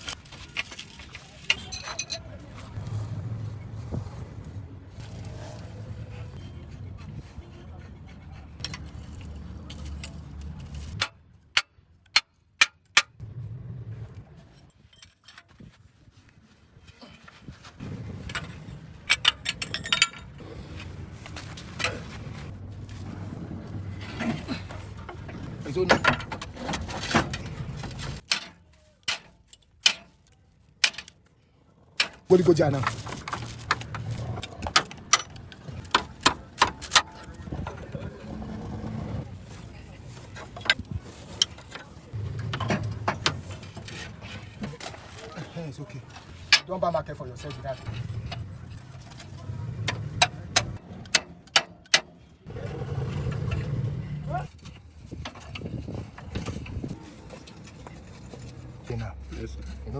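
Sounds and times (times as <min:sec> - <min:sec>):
low workshop rumble: 0:00.0 - 0:59.9.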